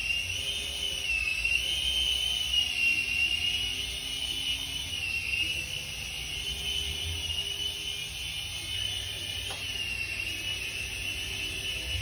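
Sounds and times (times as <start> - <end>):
toy helicopter rotor whine: 0.0 - 12.0.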